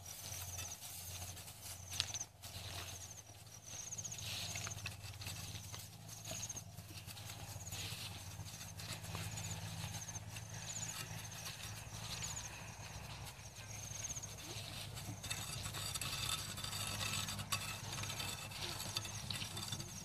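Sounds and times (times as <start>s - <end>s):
footsteps on dirt path: 0.0s - 20.0s.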